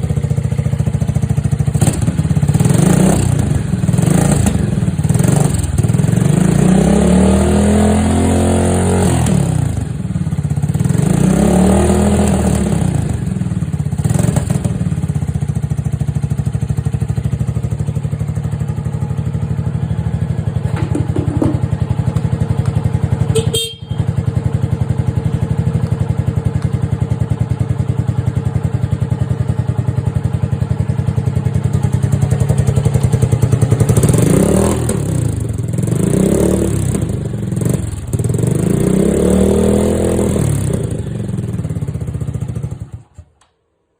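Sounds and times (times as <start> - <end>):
motorcycle engine revving and idling: 0.0 - 43.5.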